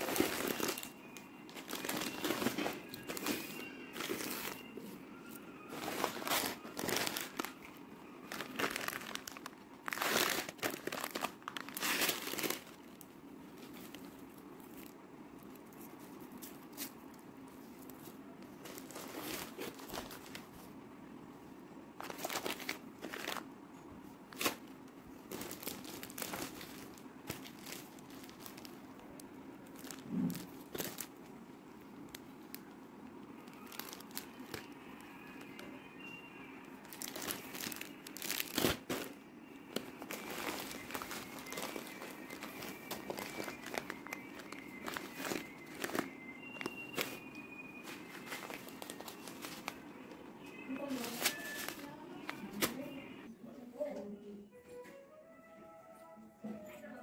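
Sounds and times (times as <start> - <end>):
plastic food packets crinkling: 0.0 - 17.2, 17.8 - 20.7, 22.0 - 23.5, 24.3 - 31.3, 33.4 - 35.7, 36.8 - 52.8.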